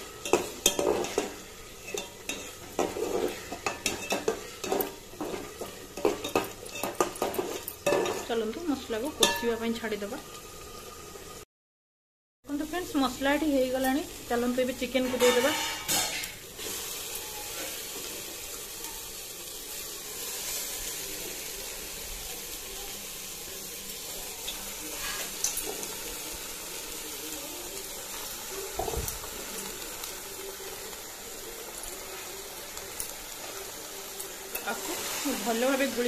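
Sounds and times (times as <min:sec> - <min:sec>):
chicken sizzling in oil: 0:00.0 - 0:11.5, 0:12.5 - 0:36.0.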